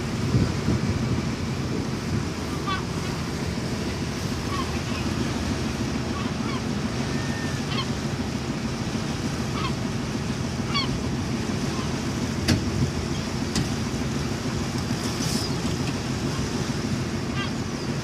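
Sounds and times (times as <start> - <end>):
steady low rumble: 0.0 - 18.0
gulls crying: 1.5 - 18.0.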